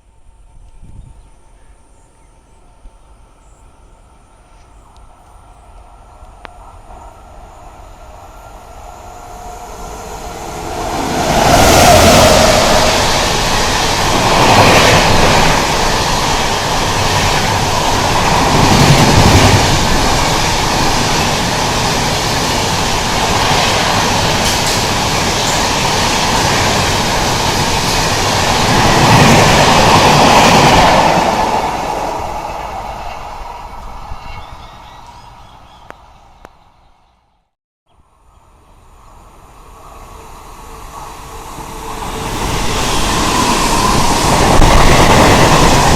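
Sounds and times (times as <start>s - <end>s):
electric train passing: 2.4s - 37.3s, 38.0s - 45.9s.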